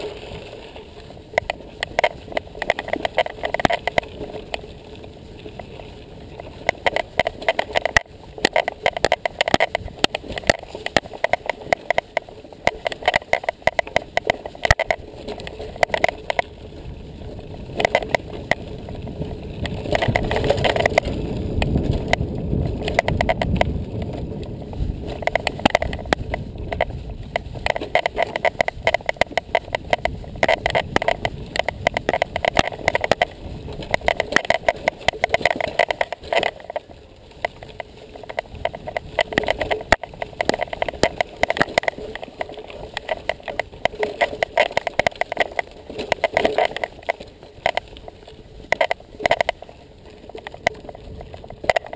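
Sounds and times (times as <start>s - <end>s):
mountain bike rattling on trail: 0.0s - 51.9s
wind on microphone: 0.0s - 51.9s.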